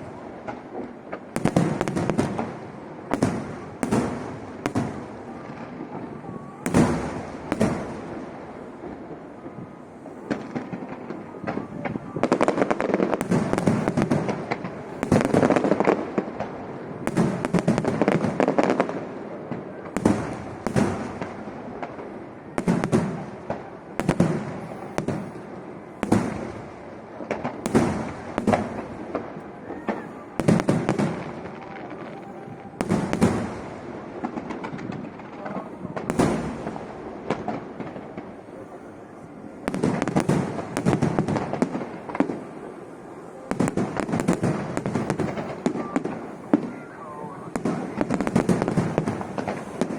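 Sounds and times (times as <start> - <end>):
dense fireworks crackling: 0.0 - 49.9
fireworks booming overhead: 0.0 - 49.9.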